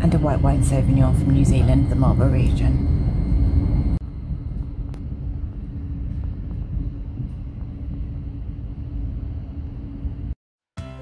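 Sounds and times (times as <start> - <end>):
train rumble inside carriage: 0.0 - 10.4.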